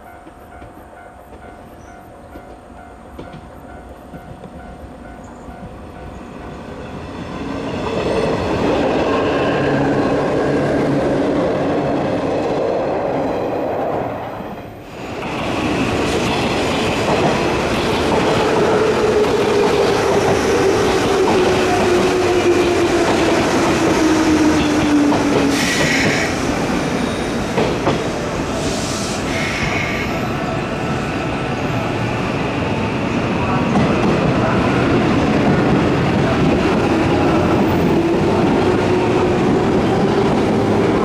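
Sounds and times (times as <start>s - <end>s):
electric train running on track: 0.0s - 41.0s.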